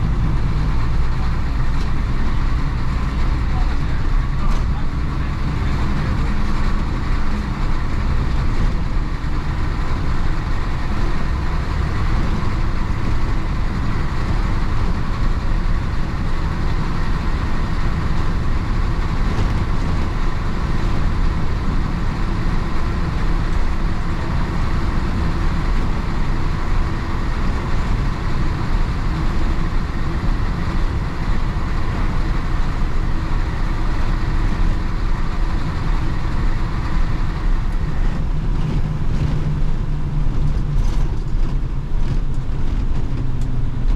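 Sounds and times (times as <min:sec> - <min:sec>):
diesel bus engine running: 0:00.0 - 0:43.9
road noise: 0:00.0 - 0:43.9.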